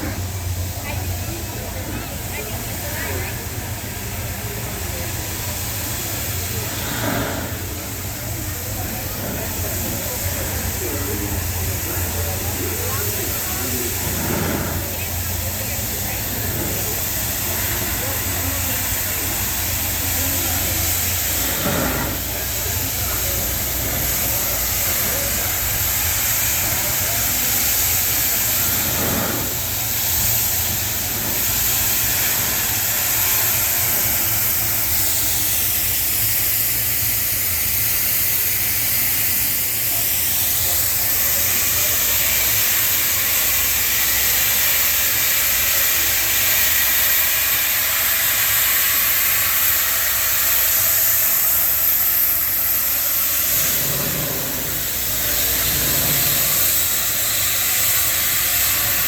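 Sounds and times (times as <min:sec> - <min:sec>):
motor launch engine and wash: 0:00.0 - 0:35.0, 0:38.5 - 0:59.0.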